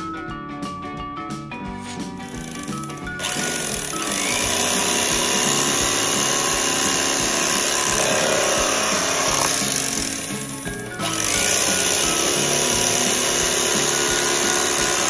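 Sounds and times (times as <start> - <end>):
background music: 0.0 - 15.0
electric carving knife running: 2.2 - 15.0.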